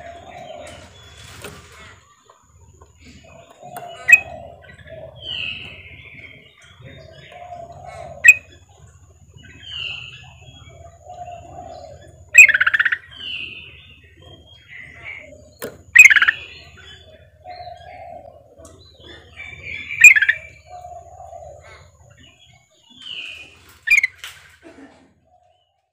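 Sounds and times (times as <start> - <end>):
bulbul harsh chattering calls: 0.0 - 24.5.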